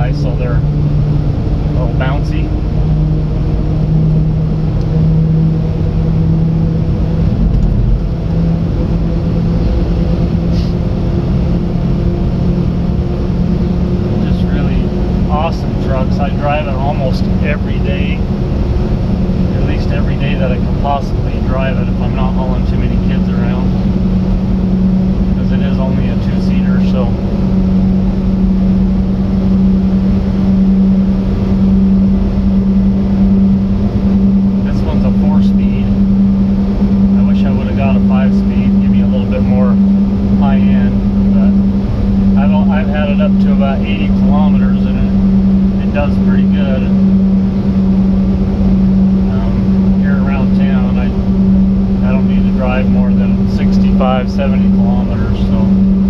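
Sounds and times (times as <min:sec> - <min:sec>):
tires rumbling on road: 0:00.0 - 0:56.0
truck engine drone: 0:00.0 - 0:56.0.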